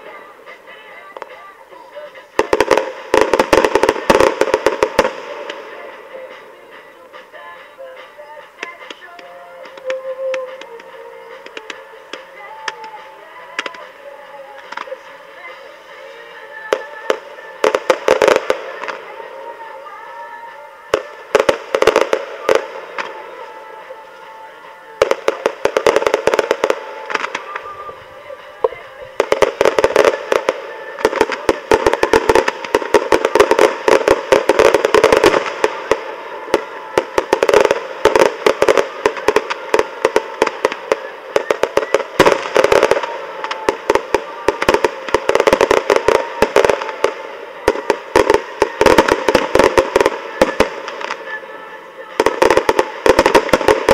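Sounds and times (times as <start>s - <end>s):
fireworks popping and crackling: 0.0s - 53.9s.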